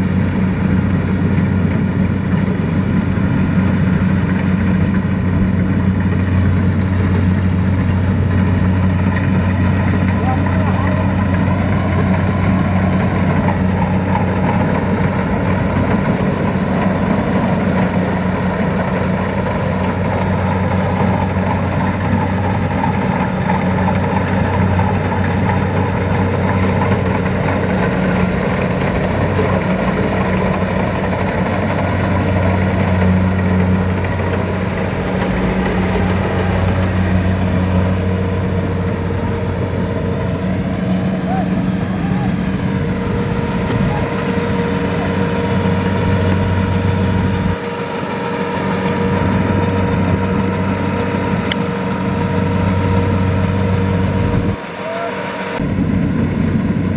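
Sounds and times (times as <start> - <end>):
diesel engine humming: 0.0 - 56.9.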